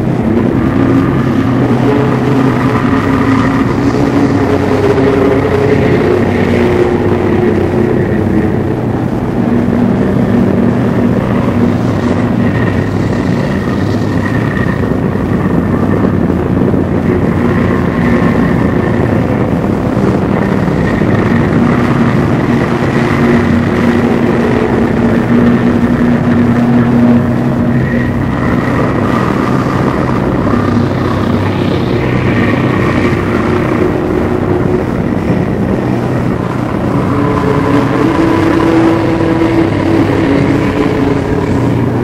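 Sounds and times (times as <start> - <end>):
dense droning noise: 0.0 - 42.0.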